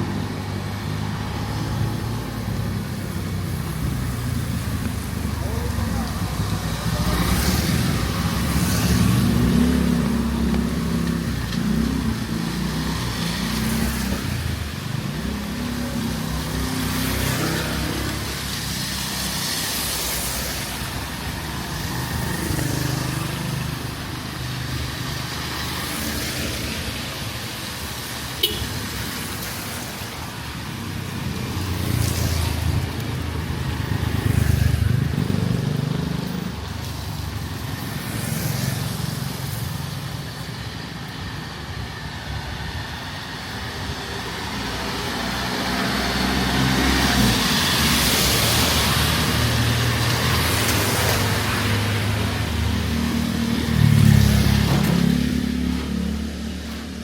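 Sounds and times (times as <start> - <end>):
vehicle engines passing: 0.0 - 57.0.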